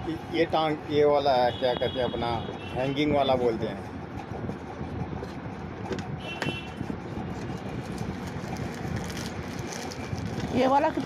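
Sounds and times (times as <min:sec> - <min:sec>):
busy shop hum: 0:00.0 - 0:11.0.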